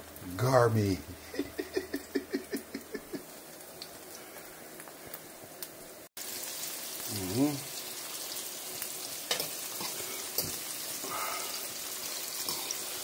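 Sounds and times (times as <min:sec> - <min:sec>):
faint steady hiss: 0:00.0 - 0:13.0
oil sizzling in a frying pan: 0:00.0 - 0:13.0.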